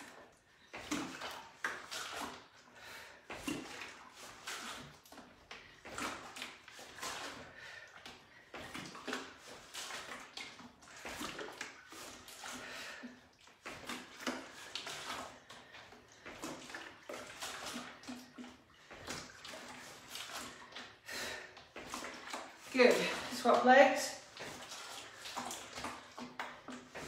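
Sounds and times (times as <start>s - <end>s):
water sloshing in plastic container: 0.0s - 27.0s.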